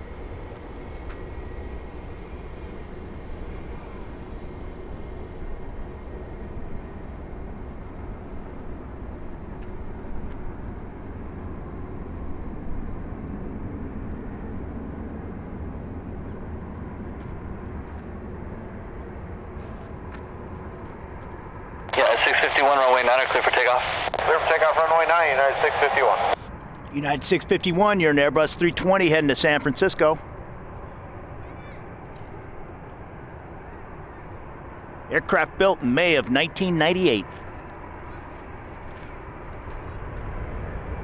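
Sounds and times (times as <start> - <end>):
faint high engine whine: 0.0 - 41.0
jet engine rumble: 0.0 - 41.0.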